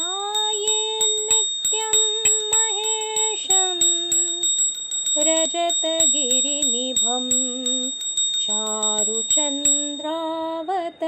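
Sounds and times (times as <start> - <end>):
quick regular ticking beat: 0.0 - 10.2
steady high tone: 0.0 - 10.9
woman singing wordless chant: 0.0 - 11.0.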